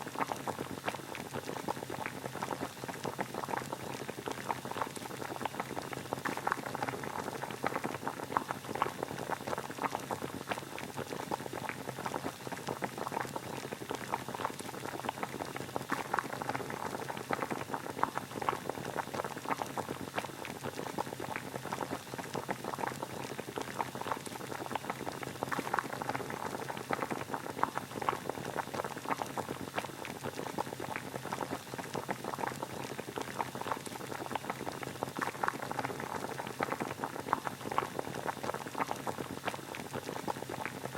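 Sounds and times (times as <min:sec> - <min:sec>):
water boiling and bubbling: 0:00.0 - 0:40.9.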